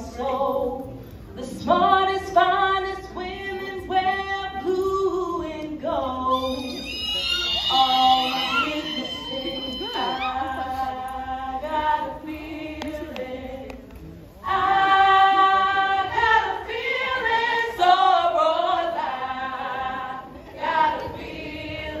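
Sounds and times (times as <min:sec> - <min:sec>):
women singing a cappella: 0:00.0 - 0:06.9, 0:07.7 - 0:22.0.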